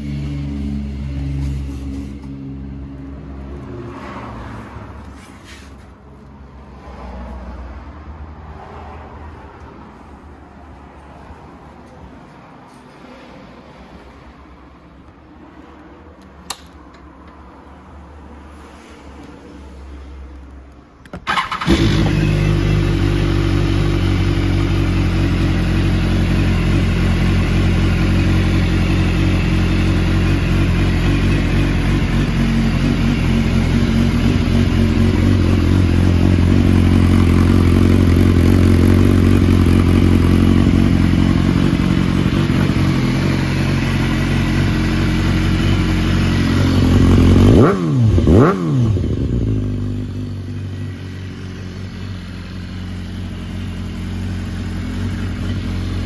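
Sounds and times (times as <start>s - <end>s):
motorcycle engine idling and revving: 0.0s - 13.0s, 13.6s - 56.0s.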